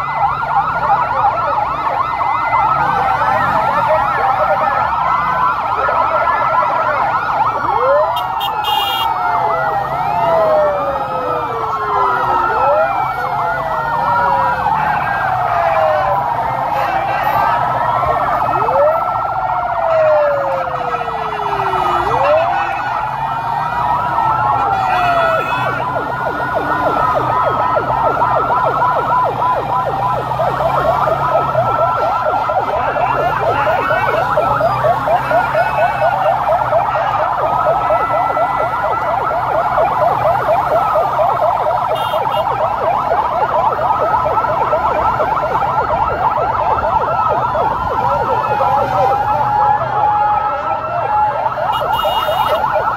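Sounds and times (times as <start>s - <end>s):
police sirens wailing: 0.0s - 52.9s
vehicle engines humming: 0.0s - 52.9s.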